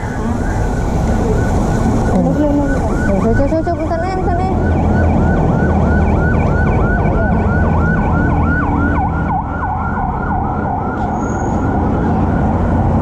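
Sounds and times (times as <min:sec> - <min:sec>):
electronic siren yelping: 0:00.0 - 0:12.8
street traffic rumble: 0:00.0 - 0:13.0.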